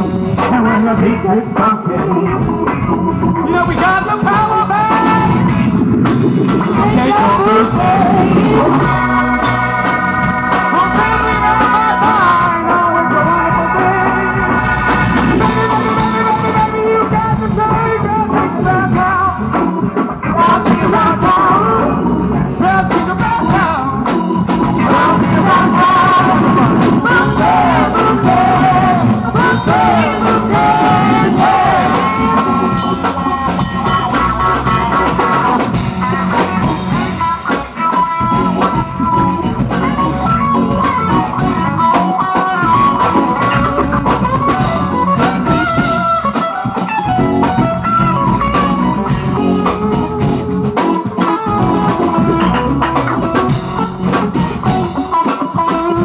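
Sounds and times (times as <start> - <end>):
bass: 0.0 - 56.0
drum kit: 0.0 - 56.0
electric guitars: 0.0 - 56.0
keyboards: 0.0 - 56.0.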